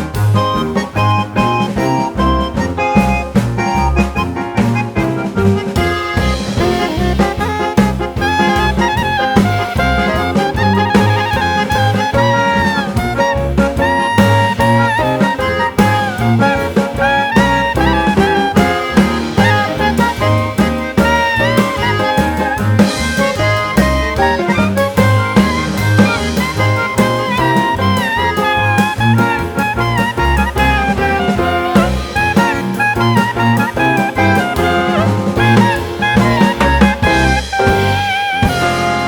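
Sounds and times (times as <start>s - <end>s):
jazz music with saxophone lead: 0.0s - 39.0s.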